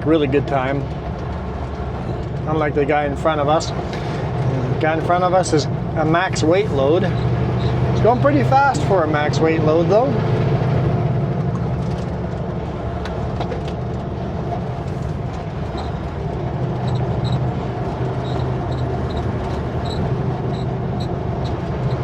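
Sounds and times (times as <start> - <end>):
road noise: 0.0 - 22.0
truck diesel engine droning: 0.0 - 22.0.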